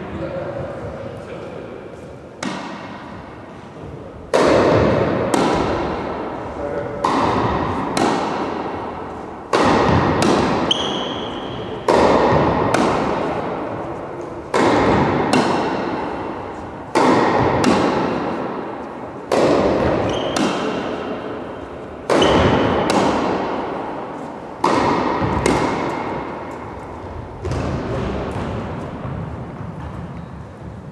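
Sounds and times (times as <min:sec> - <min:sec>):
tennis ball hit by racket: 0:02.4 - 0:03.1, 0:04.3 - 0:06.3, 0:07.0 - 0:30.2
tennis ball bouncing: 0:02.4 - 0:03.2, 0:04.3 - 0:06.3, 0:07.0 - 0:30.8.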